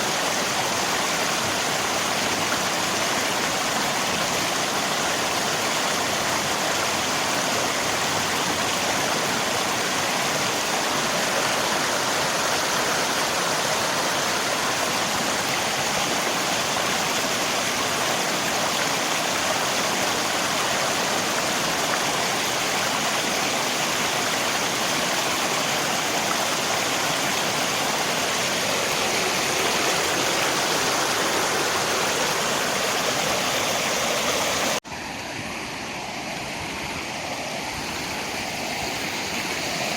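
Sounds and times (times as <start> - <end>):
rain: 0.0 - 39.9
river water rushing: 0.0 - 39.9.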